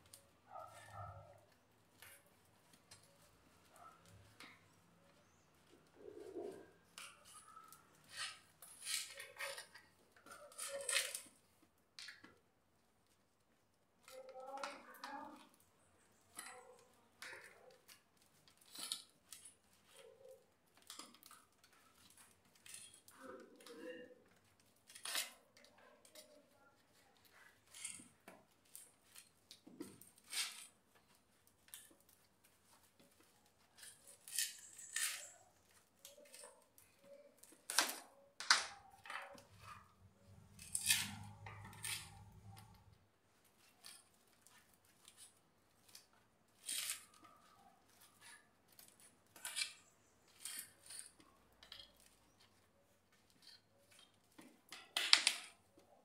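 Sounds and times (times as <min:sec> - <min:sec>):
blade scraping and snipping plastic: 0:00.0 - 0:12.4, 0:14.0 - 0:55.8.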